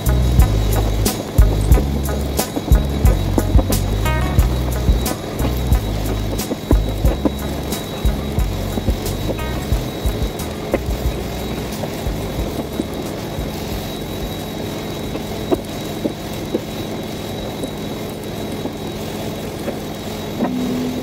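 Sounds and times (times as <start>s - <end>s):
carpet extraction machine running: 0.0s - 21.0s.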